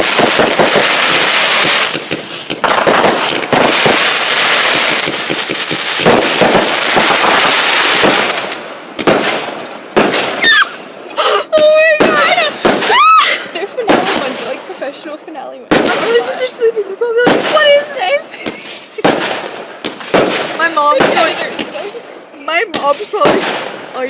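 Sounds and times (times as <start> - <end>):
fireworks crackling and popping: 0.0 - 24.0.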